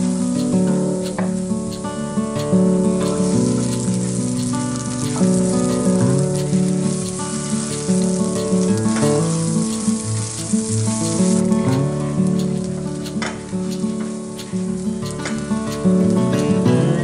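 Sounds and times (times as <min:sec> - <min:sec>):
garlic and chillies sizzling in oil: 0:00.0 - 0:17.0
oil popping: 0:00.0 - 0:17.0
spatula stirring in pan: 0:00.3 - 0:15.8.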